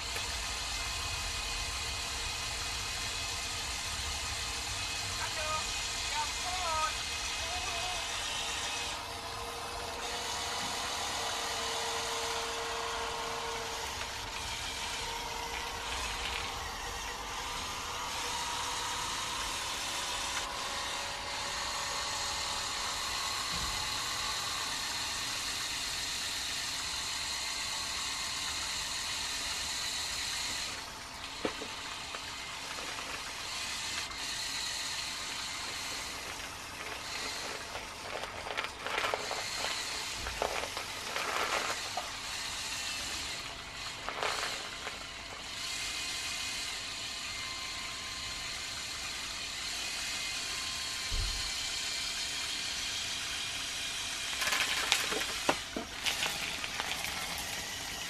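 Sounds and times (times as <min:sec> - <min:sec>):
small electric motors whirring: 0:00.0 - 0:58.0.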